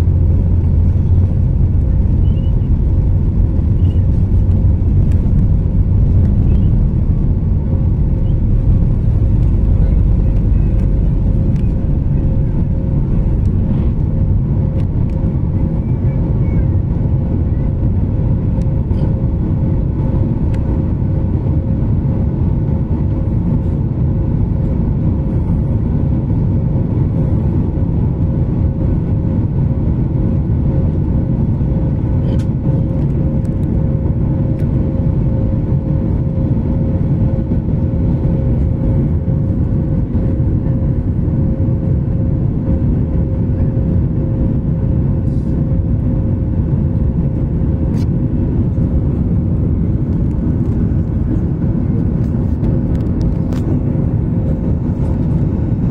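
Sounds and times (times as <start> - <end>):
constant engine hum: 0.0 - 55.9
jet engines roaring in cabin: 0.0 - 55.9.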